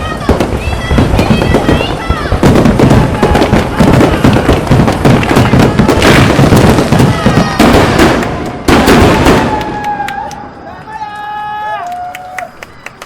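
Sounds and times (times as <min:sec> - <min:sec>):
firework shells bursting: 0:00.0 - 0:10.6
firework crackling: 0:00.0 - 0:13.0.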